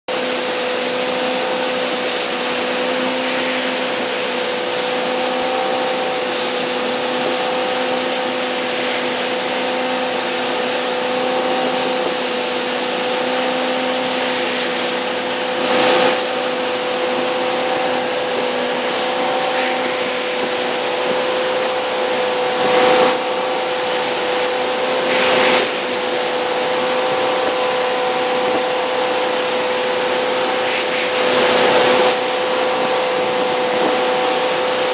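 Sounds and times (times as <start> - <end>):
boat engine drone: 0.1 - 34.9
wake water rushing: 0.1 - 34.9
wind: 0.1 - 34.9.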